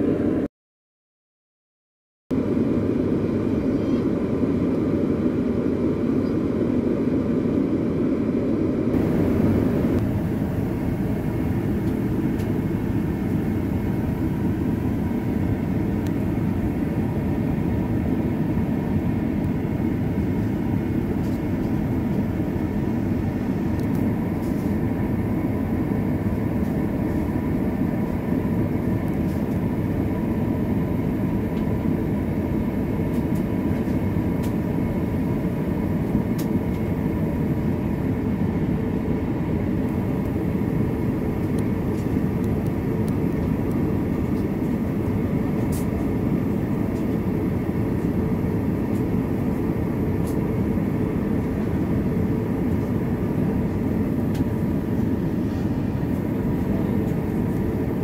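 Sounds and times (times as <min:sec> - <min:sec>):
airliner cabin drone: 0:00.0 - 0:00.5, 0:02.3 - 0:58.0.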